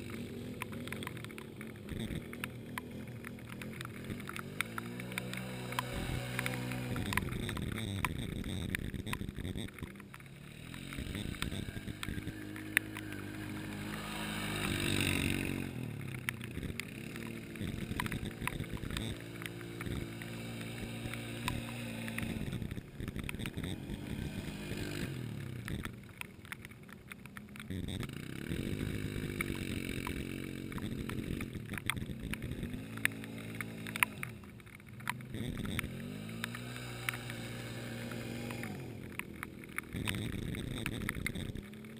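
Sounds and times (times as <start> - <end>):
atv engines revving: 0.0 - 41.9.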